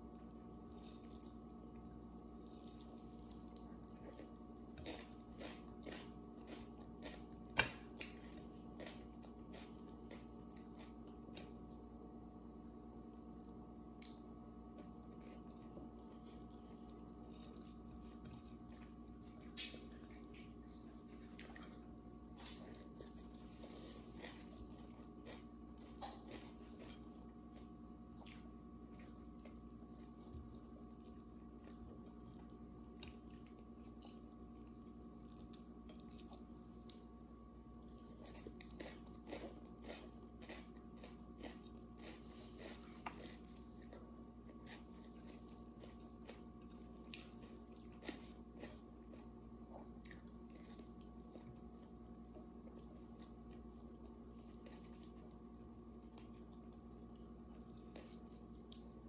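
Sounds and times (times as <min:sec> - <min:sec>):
faint steady hum: 0:00.0 - 0:59.0
close-up chewing: 0:00.2 - 0:12.0, 0:12.6 - 0:59.0.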